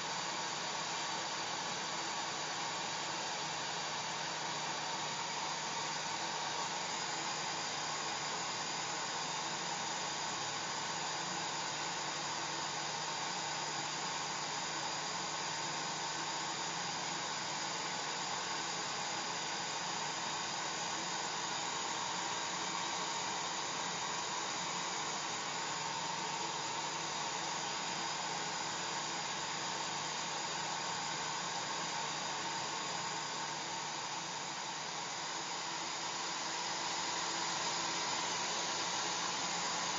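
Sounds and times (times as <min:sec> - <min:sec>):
faint motor hum: 0:00.0 - 0:39.9
hair dryer blowing air: 0:00.0 - 0:39.9.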